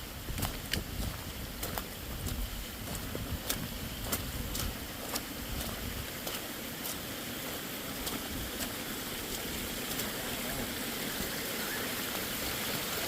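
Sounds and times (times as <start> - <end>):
rain and running water: 0.0 - 13.0.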